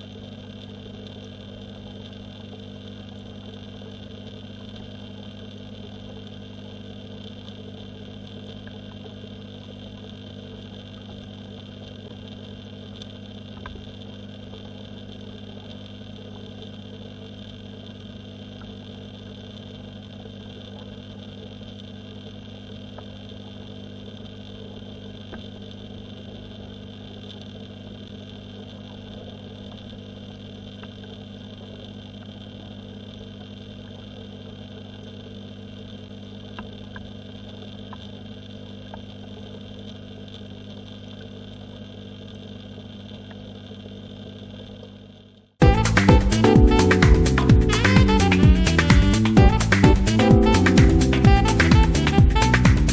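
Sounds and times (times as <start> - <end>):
faint ticks: 0.0 - 45.4
pond pump humming underwater: 0.0 - 52.9.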